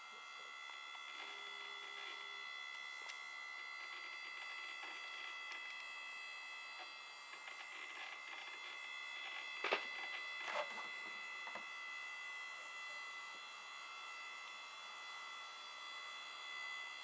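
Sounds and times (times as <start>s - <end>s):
high-pitched electronic whine: 0.0s - 17.0s.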